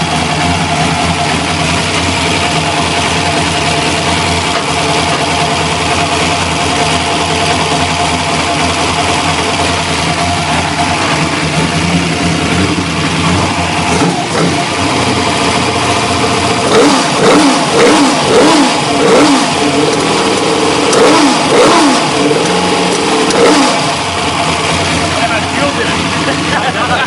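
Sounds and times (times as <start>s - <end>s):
engine throttle blips: 0.0s - 27.0s
race car engine idling: 0.0s - 27.0s.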